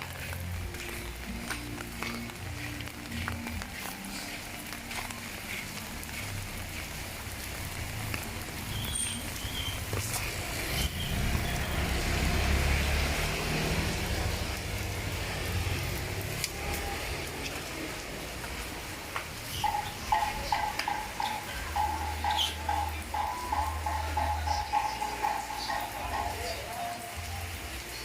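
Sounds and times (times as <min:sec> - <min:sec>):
rain hissing: 0:00.0 - 0:28.0
vehicle passing on wet road: 0:00.0 - 0:28.0.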